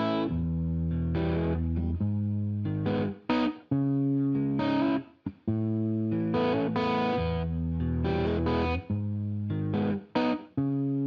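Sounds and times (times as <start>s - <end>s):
distorted electric guitar: 0.0s - 11.0s.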